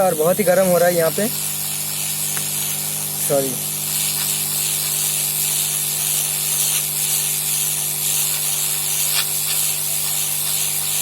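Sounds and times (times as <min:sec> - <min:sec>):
hot-air blower hissing: 0:00.0 - 0:11.0.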